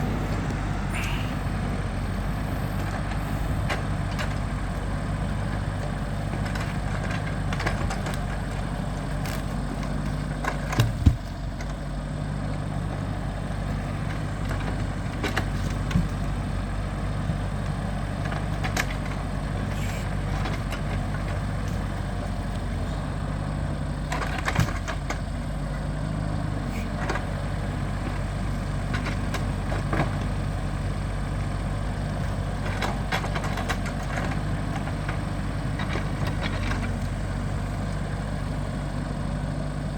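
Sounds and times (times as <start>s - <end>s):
wooden knocks of logs: 0.0s - 11.9s, 12.5s - 25.6s, 26.6s - 38.7s
heavy engine running: 0.0s - 39.9s.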